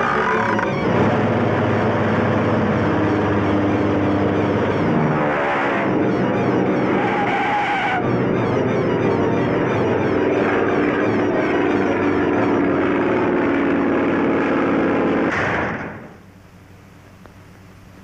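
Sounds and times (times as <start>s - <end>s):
cartoon propeller airplane engine: 0.0s - 15.3s.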